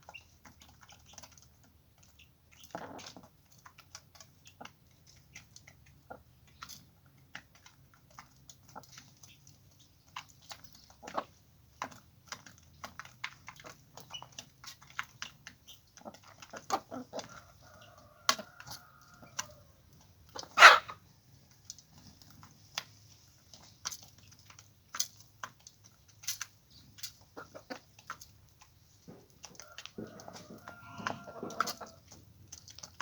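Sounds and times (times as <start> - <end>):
chickens clucking softly: 0.0 - 33.0.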